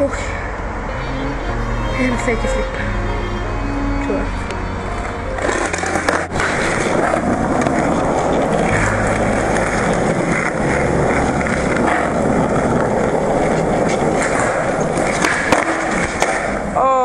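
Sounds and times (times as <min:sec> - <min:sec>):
skateboard wheels rolling on asphalt: 0:00.0 - 0:17.0.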